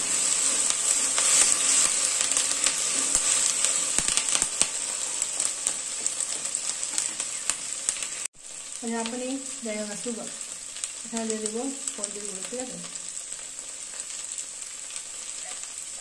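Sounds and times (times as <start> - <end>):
okra sizzling in oil: 0.0 - 16.0.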